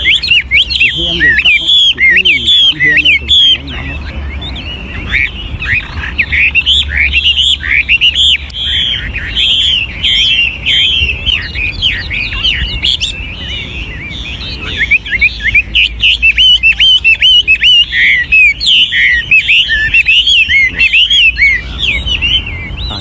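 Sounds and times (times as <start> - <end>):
bird singing whistled phrases: 0.0 - 23.0.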